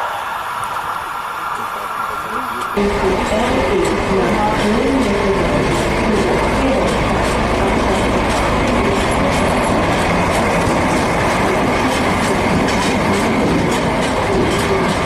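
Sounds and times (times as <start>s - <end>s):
diesel locomotive engine running: 0.0s - 15.0s
train wheels clacking over track: 0.0s - 15.0s.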